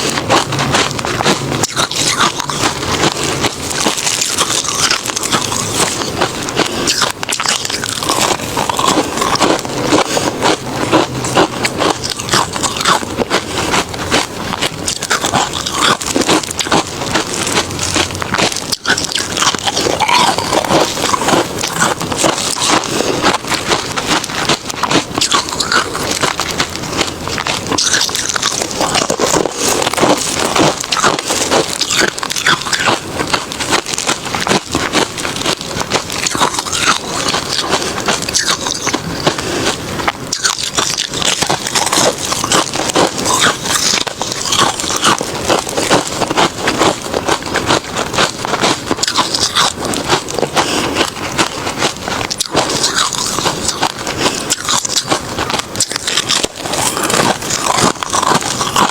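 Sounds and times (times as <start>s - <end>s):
ice crunching being chewed: 0.0s - 58.9s.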